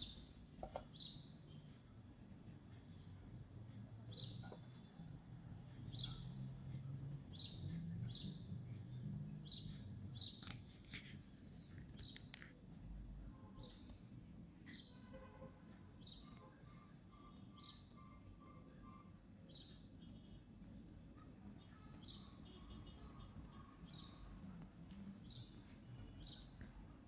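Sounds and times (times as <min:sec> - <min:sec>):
small bird chirping: 0:00.0 - 0:01.9, 0:02.7 - 0:05.1, 0:05.7 - 0:12.6, 0:13.4 - 0:15.3, 0:16.0 - 0:26.7.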